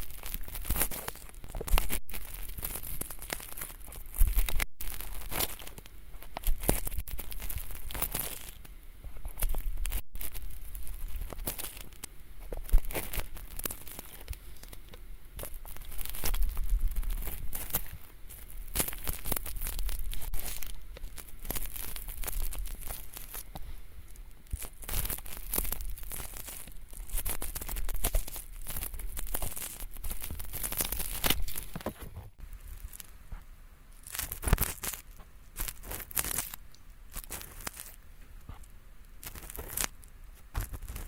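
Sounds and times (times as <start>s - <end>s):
ear pick scraping earwax: 0.0s - 41.0s.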